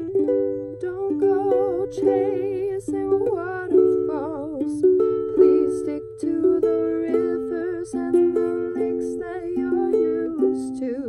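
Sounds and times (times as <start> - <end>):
ukulele strummed: 0.0 - 11.0
woman singing: 0.0 - 11.0.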